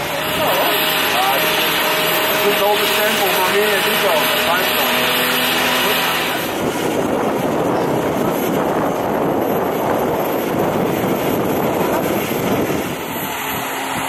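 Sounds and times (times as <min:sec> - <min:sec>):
crane engine roaring: 0:00.0 - 0:14.0.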